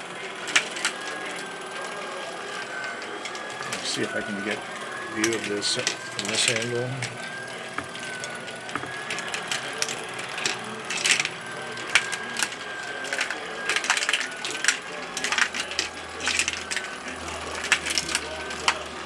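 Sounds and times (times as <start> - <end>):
marbles clattering on track: 0.0 - 19.0
motor whine: 0.0 - 19.0.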